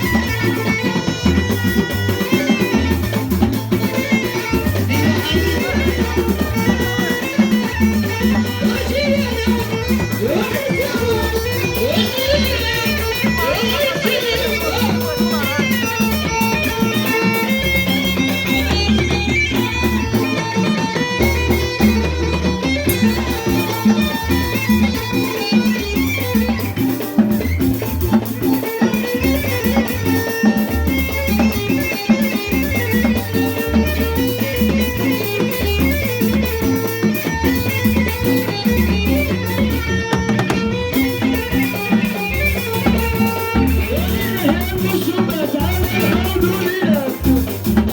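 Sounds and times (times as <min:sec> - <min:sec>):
steady drum beat: 0:00.0 - 0:47.9
string instruments: 0:00.0 - 0:47.9.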